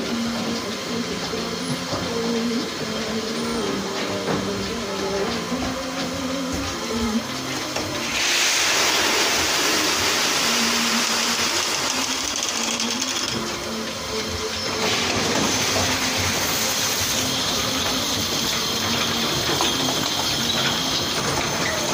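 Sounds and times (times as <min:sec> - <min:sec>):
milking machine hum and hiss: 0:00.0 - 0:21.9.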